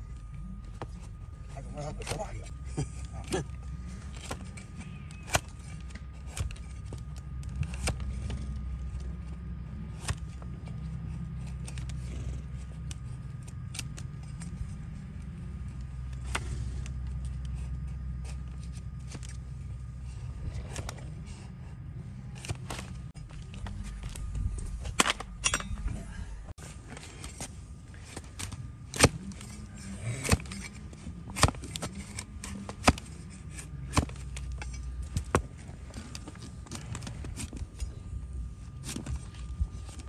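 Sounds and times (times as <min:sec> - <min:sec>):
blade cutting hoof horn: 0:00.0 - 0:25.8, 0:26.9 - 0:40.0
low rumble: 0:05.8 - 0:40.0.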